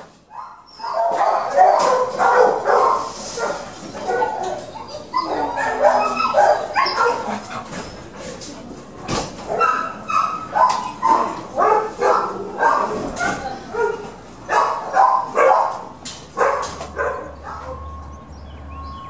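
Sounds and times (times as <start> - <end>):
dogs barking: 0.2 - 7.9, 9.4 - 18.0.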